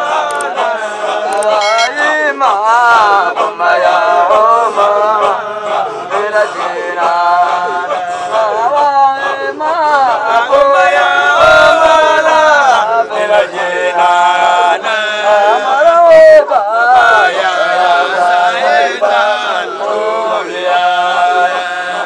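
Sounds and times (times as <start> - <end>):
group of men chanting: 0.0 - 22.0.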